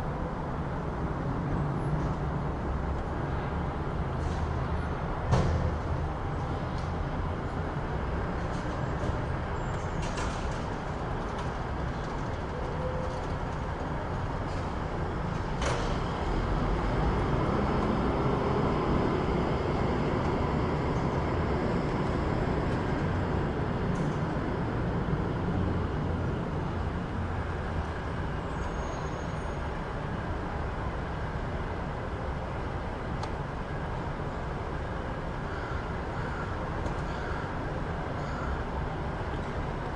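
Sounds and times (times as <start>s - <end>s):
rumble of passing vehicles: 0.0s - 39.9s.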